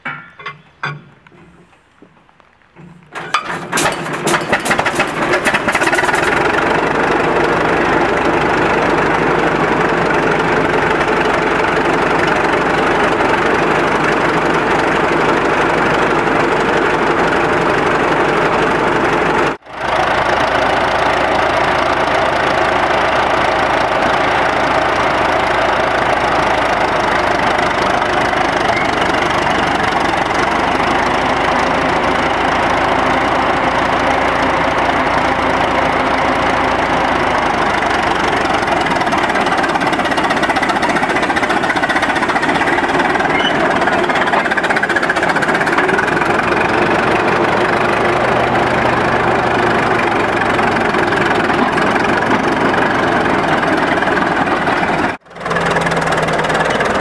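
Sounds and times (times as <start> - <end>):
tractor engine starting and running: 0.0 - 57.0.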